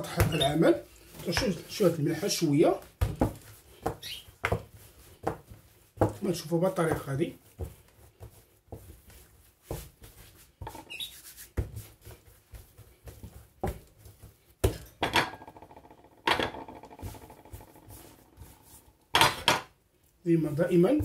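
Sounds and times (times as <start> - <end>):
hands rubbing dough: 0.0 - 14.8, 15.4 - 21.0
dough slapping and thudding: 0.0 - 21.0.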